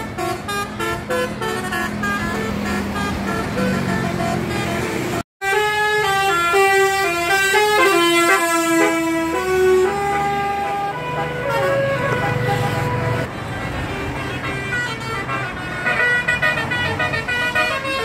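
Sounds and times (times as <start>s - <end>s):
multi-tone air horn tune: 0.0s - 13.3s, 13.9s - 18.0s
bus engine running: 0.0s - 18.0s.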